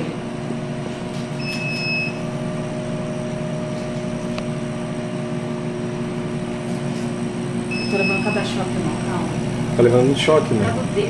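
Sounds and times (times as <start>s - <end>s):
laser cutter fans humming: 0.0s - 11.0s.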